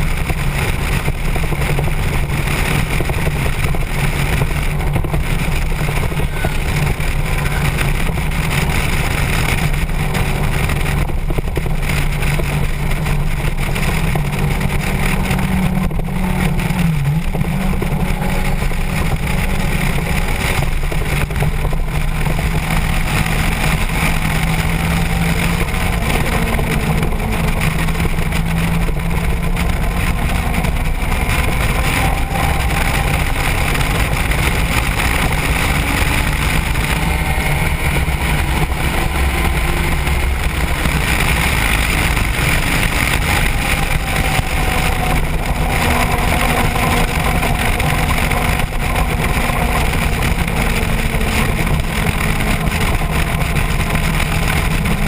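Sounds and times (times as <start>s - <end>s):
motorcycle engine cruising: 0.0s - 55.0s
wind rushing past microphone: 0.0s - 55.0s.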